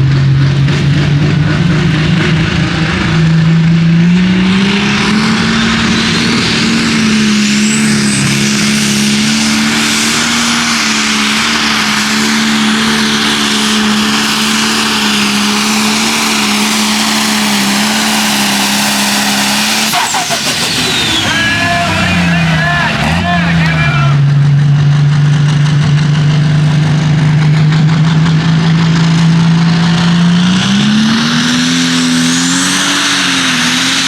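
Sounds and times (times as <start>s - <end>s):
diesel engine at full throttle: 0.0s - 34.0s
high turbo whine: 0.0s - 34.0s.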